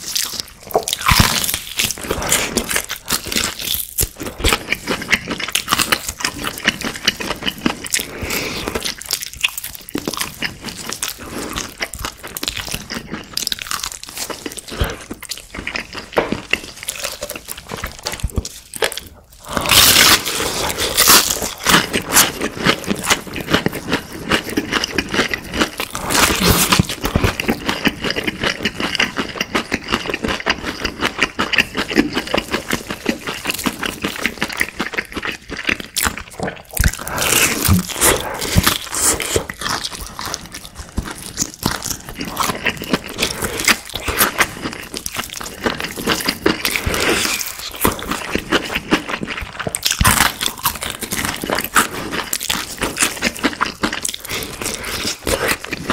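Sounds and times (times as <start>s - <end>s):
crunchy chewing of fried chicken: 0.0s - 55.9s
wet mouth sounds: 0.0s - 55.9s.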